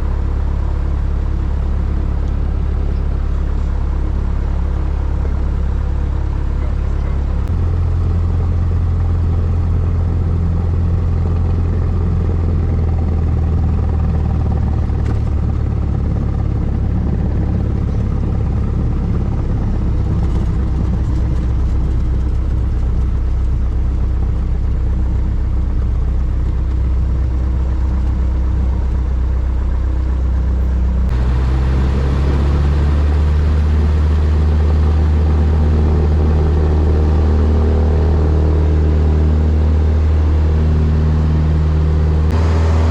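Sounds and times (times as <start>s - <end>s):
light aircraft engine droning: 0.0s - 42.9s.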